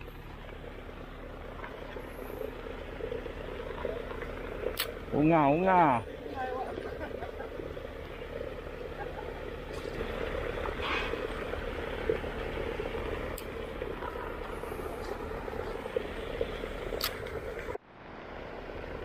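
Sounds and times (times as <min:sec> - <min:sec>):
paddlewheel aerator humming: 0:00.0 - 0:19.0.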